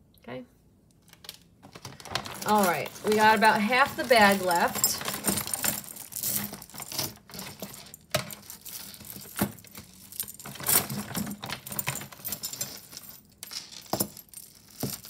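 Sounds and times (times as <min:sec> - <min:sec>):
metal jewelry clinking: 0:02.2 - 0:15.0.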